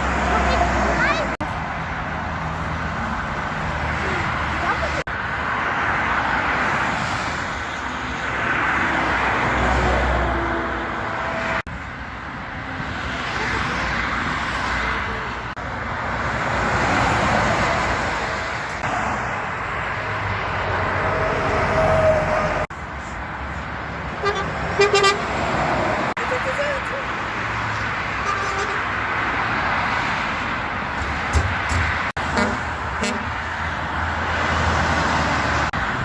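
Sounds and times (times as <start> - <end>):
trucks driving past: 0.0 - 36.0.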